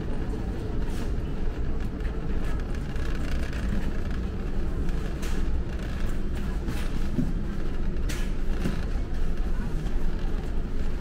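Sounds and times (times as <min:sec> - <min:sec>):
shopping cart rolling on concrete: 0:00.0 - 0:11.0.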